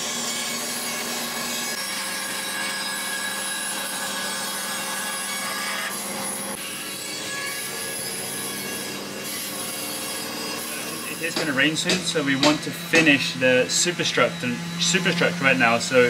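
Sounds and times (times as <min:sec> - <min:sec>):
band saw cutting wood: 0:00.0 - 0:16.0.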